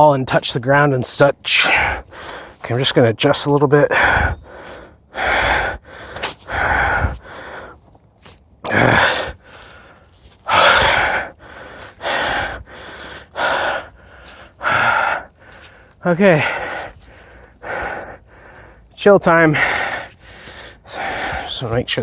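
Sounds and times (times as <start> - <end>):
man breathing hard: 1.5 - 2.6, 3.9 - 8.0, 8.6 - 21.7.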